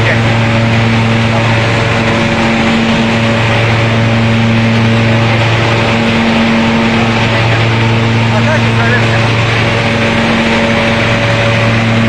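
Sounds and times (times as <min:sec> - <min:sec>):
thresher engine droning: 0:00.0 - 0:12.0.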